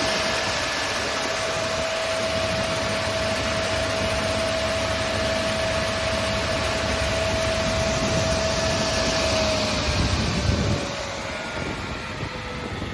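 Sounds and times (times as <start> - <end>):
saw machine with high whine: 0.0 - 12.9.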